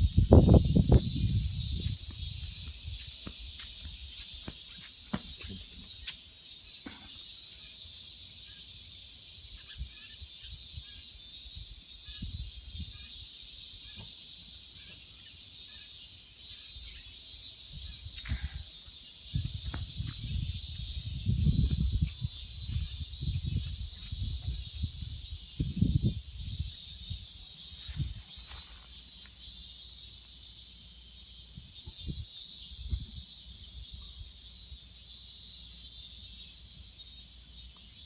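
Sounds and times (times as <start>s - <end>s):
insects buzzing: 0.0s - 38.0s.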